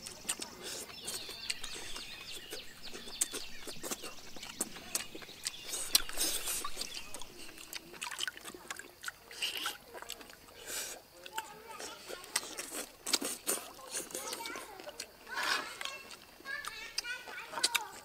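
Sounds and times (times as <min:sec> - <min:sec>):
person chewing with lip-smacks: 0:00.0 - 0:18.0.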